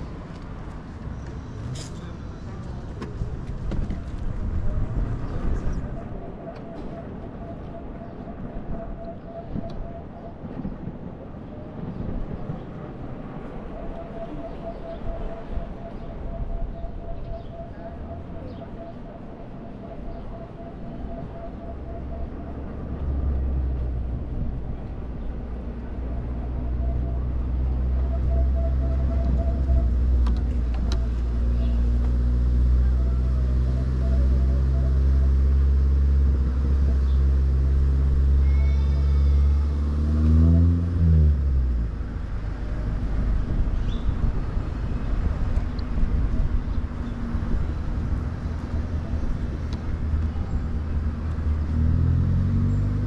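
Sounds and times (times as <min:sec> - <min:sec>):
vehicle engine rumble: 0:00.0 - 0:53.0.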